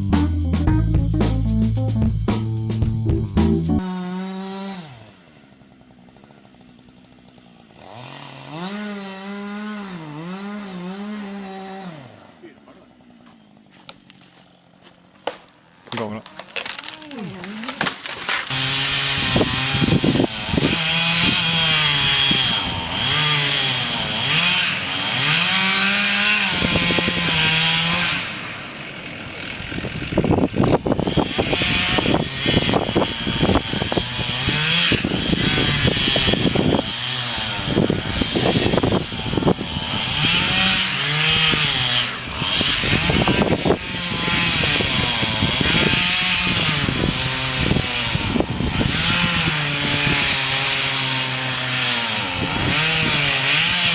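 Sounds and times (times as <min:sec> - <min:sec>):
chainsaw cutting wood: 0:02.3 - 0:53.9.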